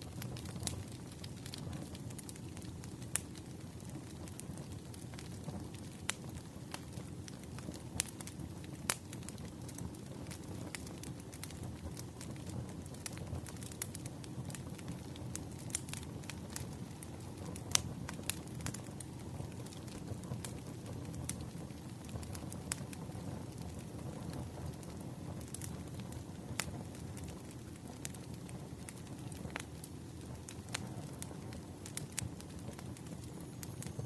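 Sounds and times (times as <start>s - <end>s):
wood fire crackling: 0.0s - 34.0s
sharp pops of burning logs: 0.1s - 34.0s.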